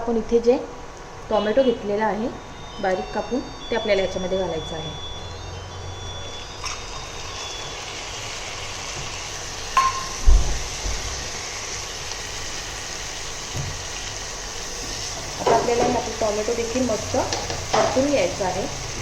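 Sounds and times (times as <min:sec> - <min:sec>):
onion sizzling in oil: 0:00.1 - 0:19.0.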